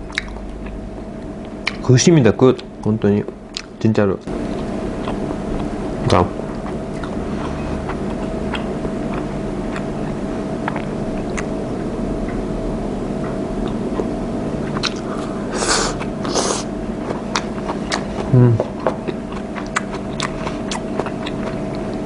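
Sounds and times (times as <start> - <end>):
steady low hum: 0.0 - 22.0
person chewing food: 0.1 - 1.8, 3.5 - 12.4, 13.6 - 22.0.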